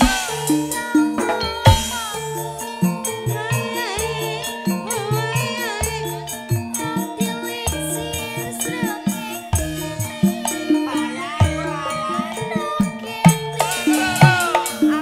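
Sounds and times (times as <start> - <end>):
bamboo xylophone melody: 0.0 - 15.0
drum strokes: 0.0 - 15.0
steady high ticking: 0.0 - 15.0
woman singing: 0.0 - 15.0.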